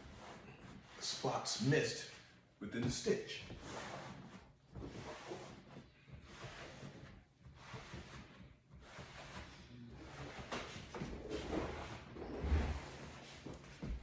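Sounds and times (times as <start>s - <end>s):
cloth rubbing on leather: 0.0s - 1.4s, 2.8s - 14.0s.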